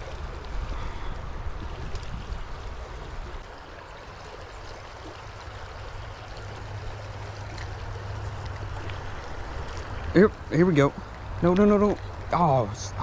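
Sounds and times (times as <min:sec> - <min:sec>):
creek burbling: 0:00.0 - 0:13.0.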